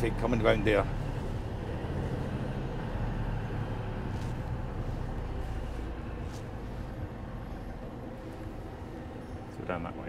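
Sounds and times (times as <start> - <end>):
road noise: 0.0 - 10.0
truck diesel engine rumble: 0.0 - 10.0.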